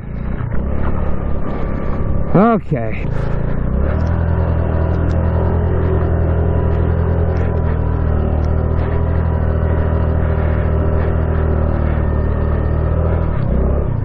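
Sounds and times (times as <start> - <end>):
small motorcycle engine running: 0.0 - 14.0.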